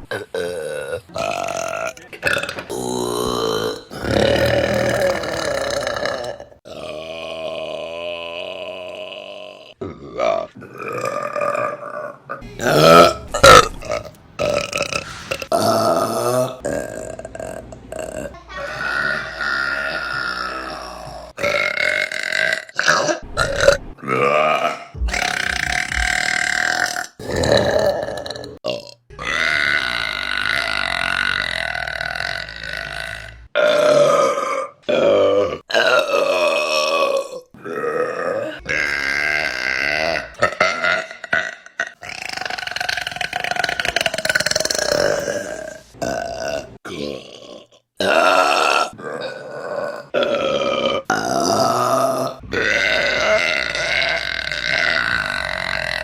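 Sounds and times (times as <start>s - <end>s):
women burping: 0.0s - 56.0s.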